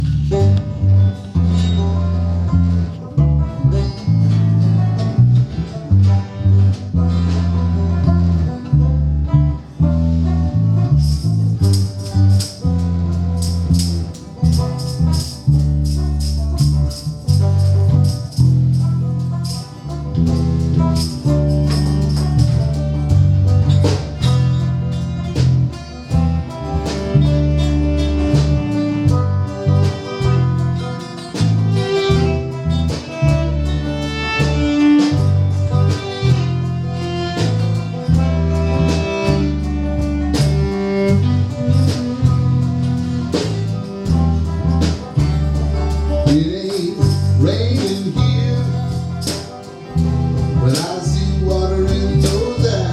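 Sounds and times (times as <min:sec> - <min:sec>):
live band playing: 0:00.0 - 0:52.9
steady bass line: 0:00.0 - 0:52.9.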